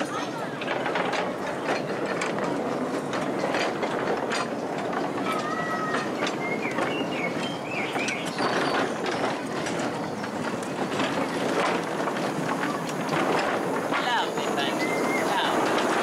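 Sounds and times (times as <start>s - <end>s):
miniature train running on track: 0.0s - 16.0s.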